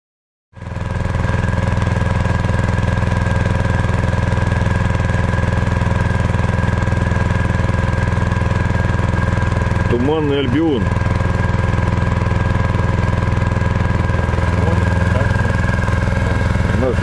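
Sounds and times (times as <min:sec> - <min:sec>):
outboard motor running: 0:00.6 - 0:17.0.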